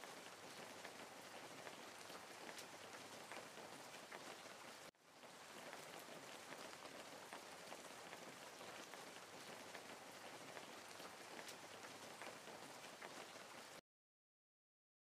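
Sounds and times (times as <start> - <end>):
rain falling: 0.0 - 13.8
raindrop ticks: 0.0 - 13.8.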